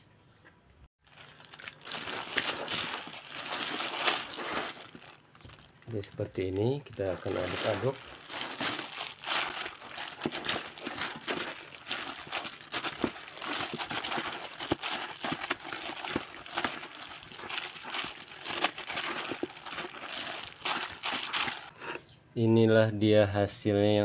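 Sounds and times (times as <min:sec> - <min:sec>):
plastic bag crinkling: 0:01.0 - 0:21.7.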